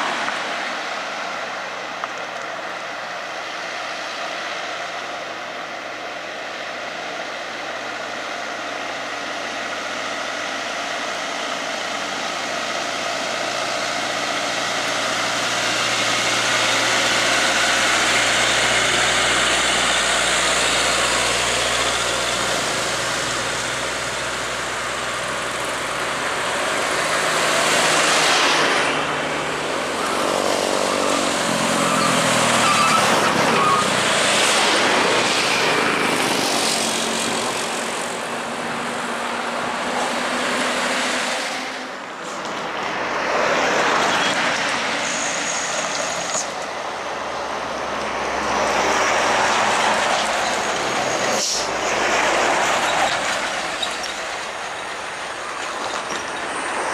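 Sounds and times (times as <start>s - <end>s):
trucks and vehicles passing: 0.0s - 56.9s.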